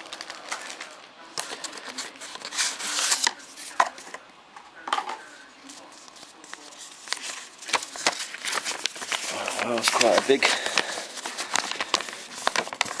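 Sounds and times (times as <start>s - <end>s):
packaging rustling and crinkling: 0.0s - 4.1s, 5.6s - 13.0s.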